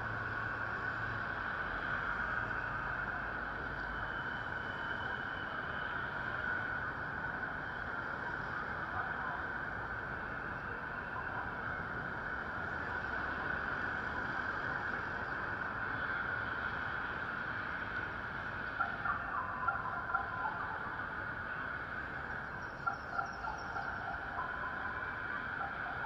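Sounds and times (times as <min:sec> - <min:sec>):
city traffic: 0:00.0 - 0:26.0.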